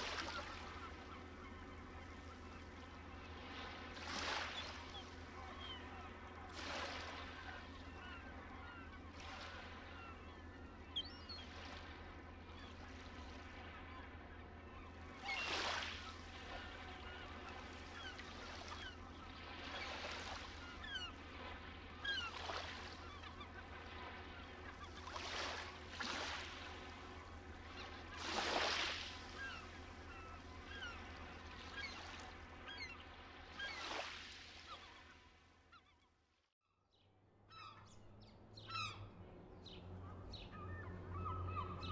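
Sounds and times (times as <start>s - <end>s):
seabirds calling: 0.0s - 36.2s, 36.9s - 41.9s.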